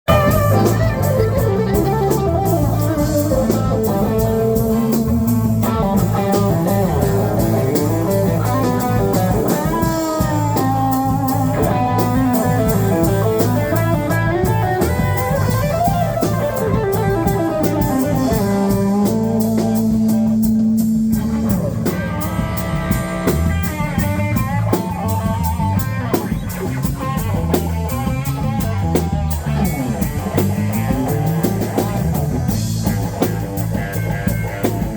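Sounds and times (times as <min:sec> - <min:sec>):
drum kit: 0:00.0 - 0:34.9
electric guitar: 0:00.0 - 0:34.9.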